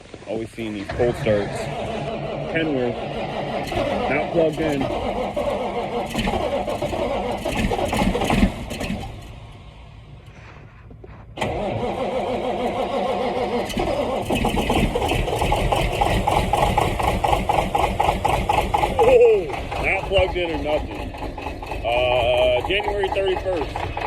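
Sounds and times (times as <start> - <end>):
diesel truck engine starting: 0.0 - 24.0.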